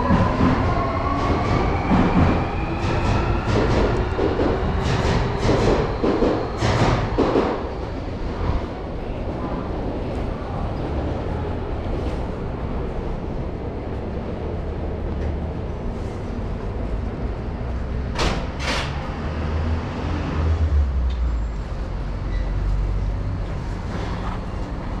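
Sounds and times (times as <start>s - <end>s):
train low rumble: 0.0s - 25.0s.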